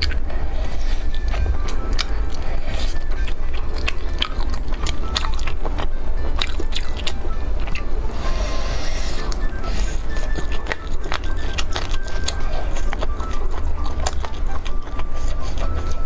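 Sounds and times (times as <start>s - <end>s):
background music: 0.0s - 16.0s
biting and chewing meat: 0.0s - 16.0s.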